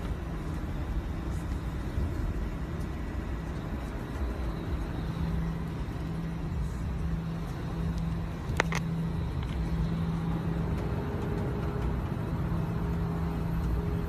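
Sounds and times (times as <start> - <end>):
vehicle engine rumble inside cabin: 0.0 - 14.0.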